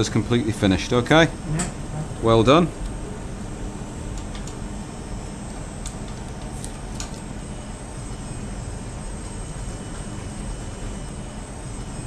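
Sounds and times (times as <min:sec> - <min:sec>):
equipment hum and air noise: 0:00.0 - 0:12.0.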